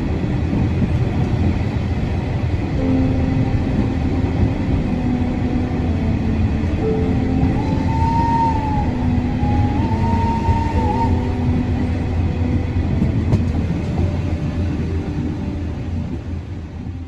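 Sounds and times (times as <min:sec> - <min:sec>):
high wavering whine: 0:00.0 - 0:17.0
train rolling on rails: 0:00.0 - 0:17.0.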